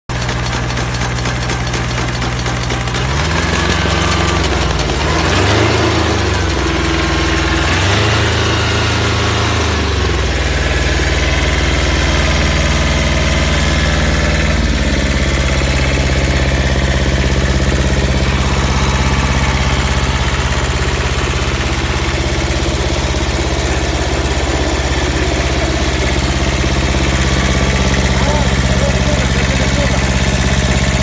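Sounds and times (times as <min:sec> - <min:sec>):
tractor diesel engine running: 0:00.1 - 0:31.0.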